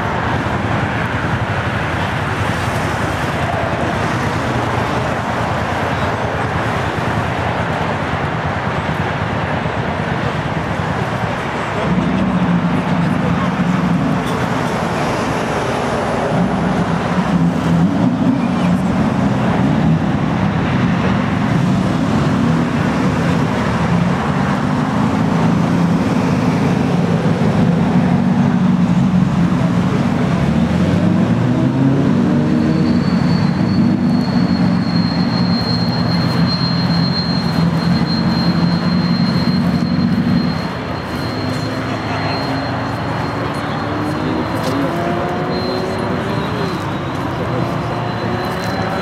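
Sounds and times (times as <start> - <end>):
motorcycle engines rumbling: 0.0 - 49.0.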